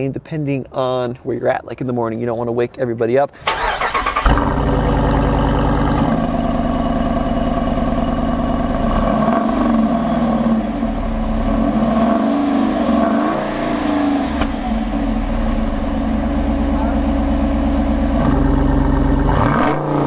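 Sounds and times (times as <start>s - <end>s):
engine idling and revving: 3.5s - 20.0s.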